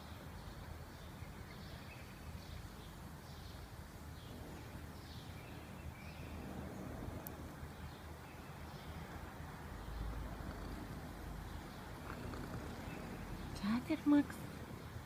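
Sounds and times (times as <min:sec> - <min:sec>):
bird chirping faintly: 0:00.0 - 0:15.0.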